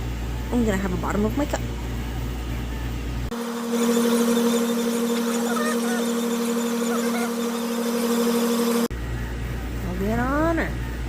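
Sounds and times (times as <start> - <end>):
steady two-tone machine hum: 0.0 - 11.0.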